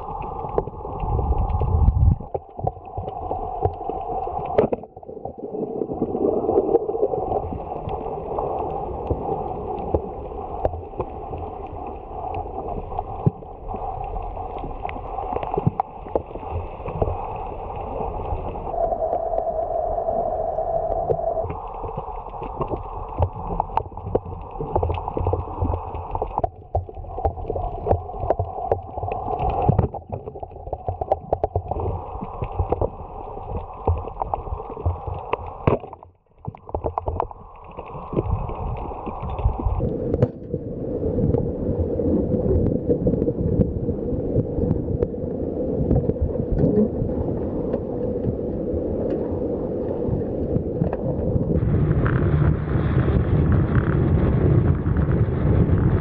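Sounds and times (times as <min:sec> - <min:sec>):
crackling clicks underwater: 0:00.0 - 0:56.0
muffled underwater water noise: 0:00.0 - 0:56.0
wind and sea rushing: 0:00.0 - 0:56.0.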